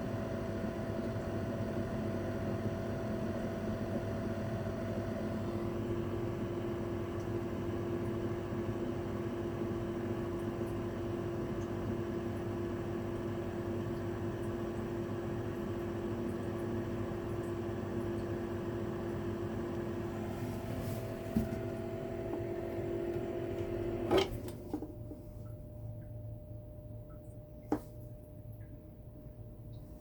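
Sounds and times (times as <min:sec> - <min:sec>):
ventilation fan motor humming: 0:00.0 - 0:30.0.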